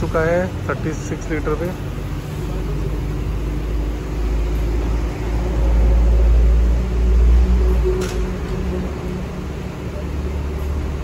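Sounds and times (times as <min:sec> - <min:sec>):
fuel pump humming: 0:00.0 - 0:11.0.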